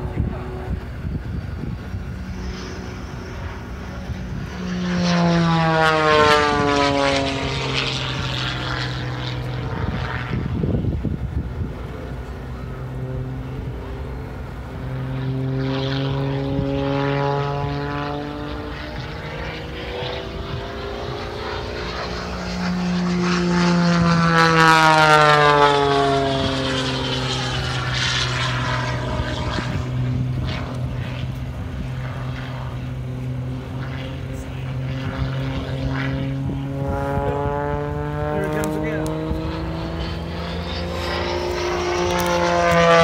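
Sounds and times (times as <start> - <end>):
propeller plane engine: 0.0 - 43.0.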